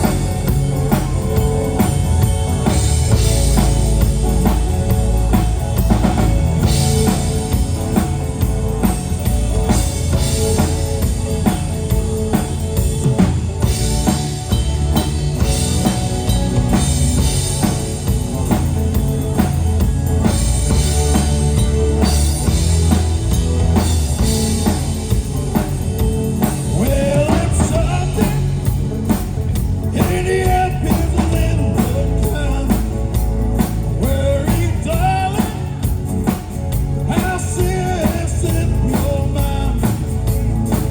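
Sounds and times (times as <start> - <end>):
heavy bass line: 0.0 - 40.9
rock band playing: 0.0 - 40.9.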